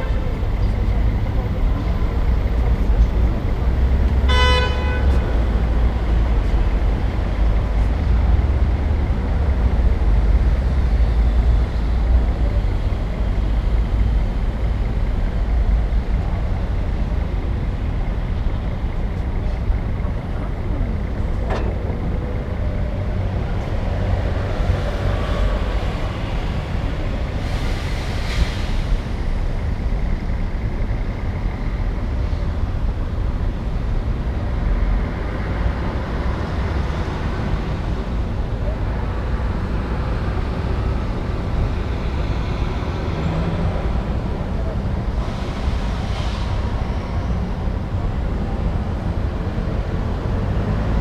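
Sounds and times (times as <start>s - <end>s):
heavy low engine drone: 0.0s - 51.0s
passing motor vehicles rumbling: 0.0s - 51.0s.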